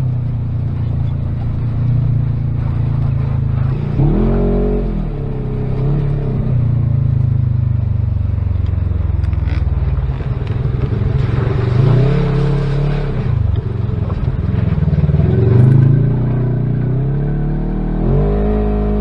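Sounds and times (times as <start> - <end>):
utility vehicle engine revving: 0.0 - 19.0.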